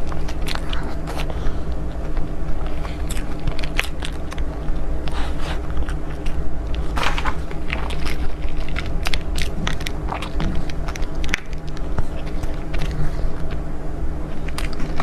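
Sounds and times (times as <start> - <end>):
crisp biting and chewing: 0.0 - 15.0
low hum: 0.0 - 15.0.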